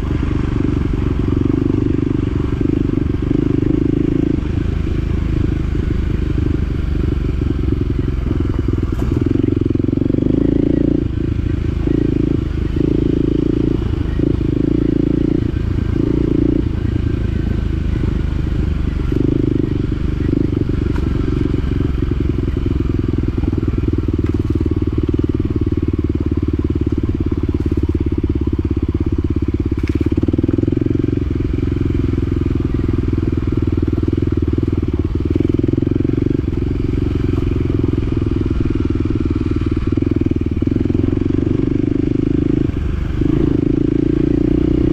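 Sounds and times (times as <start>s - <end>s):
utility vehicle engine running: 0.0s - 44.9s.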